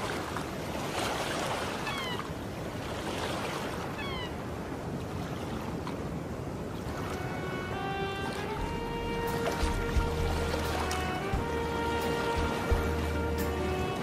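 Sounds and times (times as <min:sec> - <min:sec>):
waves washing: 0:00.0 - 0:14.0.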